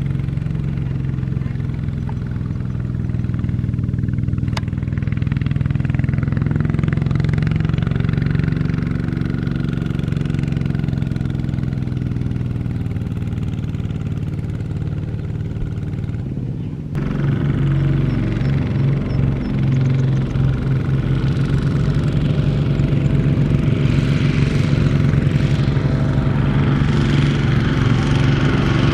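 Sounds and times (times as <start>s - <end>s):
diesel engine straining under load: 0.0s - 28.9s.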